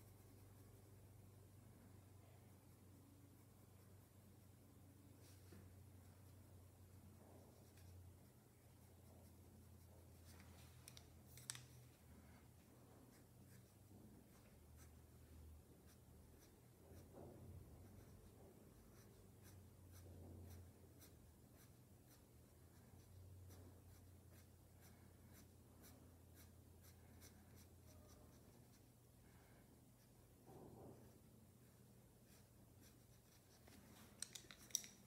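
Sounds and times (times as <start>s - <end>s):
pencil scratching on paper: 0.0s - 1.1s, 5.2s - 10.5s, 12.4s - 34.6s.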